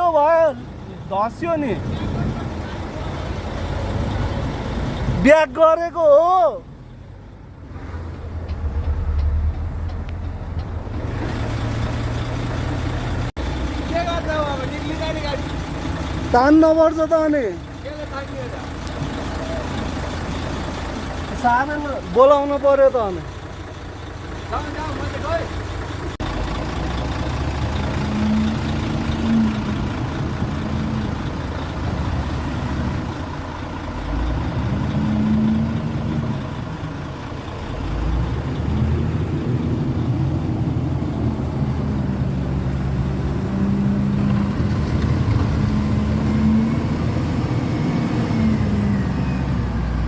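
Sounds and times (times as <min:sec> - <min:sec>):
heavy truck engine revving: 0:00.0 - 0:50.0.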